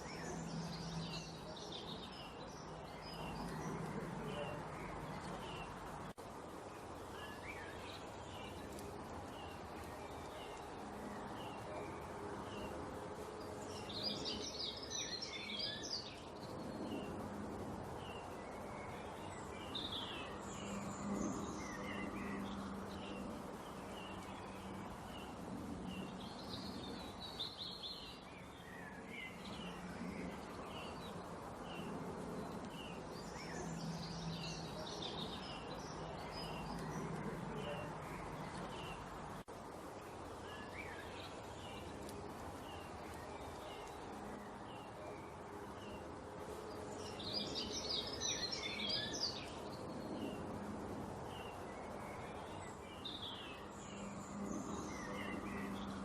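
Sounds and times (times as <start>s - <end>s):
small songbirds chirping: 0.0s - 56.0s.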